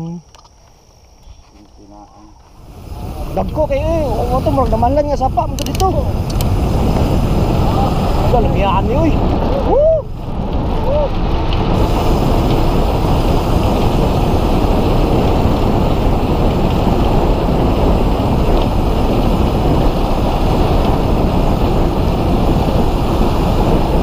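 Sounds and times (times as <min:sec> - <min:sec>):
bicycle tyres humming on concrete: 0:00.0 - 0:24.0
wind rushing over microphone: 0:01.7 - 0:24.0.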